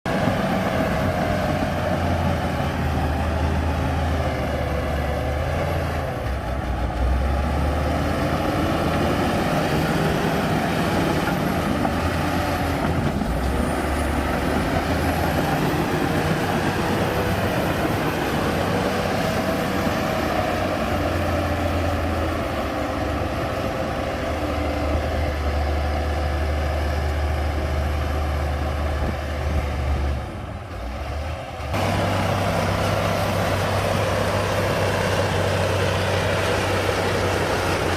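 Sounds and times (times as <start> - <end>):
heavy diesel machinery rumbling: 0.1 - 37.9.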